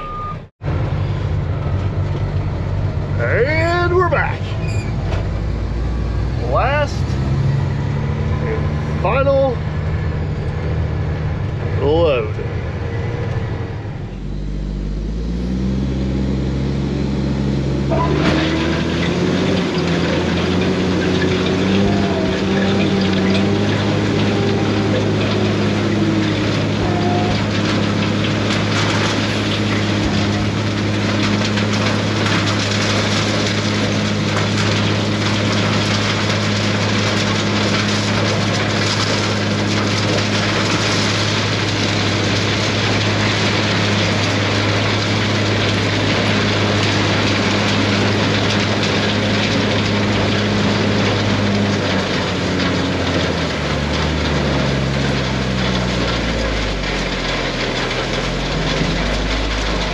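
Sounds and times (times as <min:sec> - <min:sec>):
diesel truck engine droning: 0:00.0 - 0:59.9.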